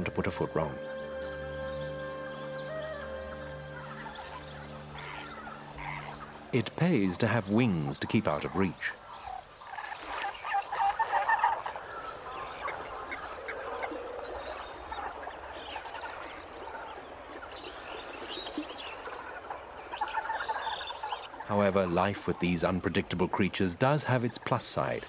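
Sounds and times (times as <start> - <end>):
flock of birds calling: 0.0 - 25.0.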